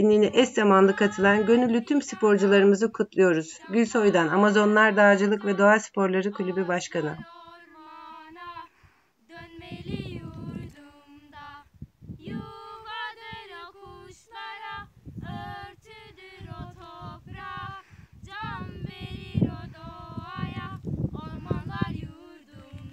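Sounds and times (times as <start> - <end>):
women singing: 0.0 - 22.9.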